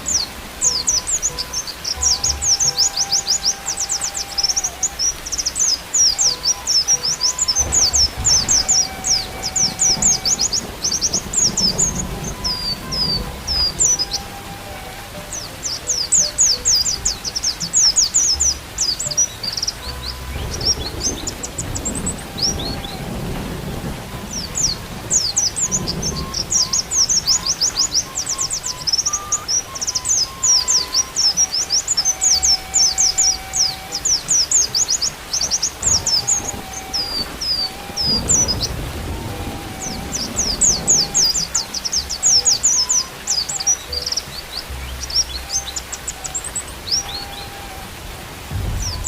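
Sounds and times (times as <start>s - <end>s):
bird chittering song: 0.0s - 49.0s
low rumbles: 0.0s - 49.0s
rain: 0.0s - 49.0s
soft flute notes: 0.0s - 49.0s.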